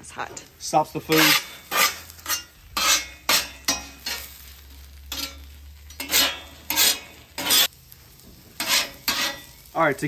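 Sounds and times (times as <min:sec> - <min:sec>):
fries sizzling: 0:00.0 - 0:10.0
metal spatula scraping griddle: 0:00.3 - 0:10.0.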